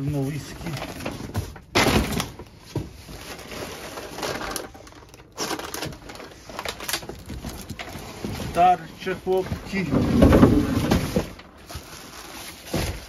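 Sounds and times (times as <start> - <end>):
clatter of objects: 0.0 - 13.0
objects knocking and scraping: 0.5 - 13.0.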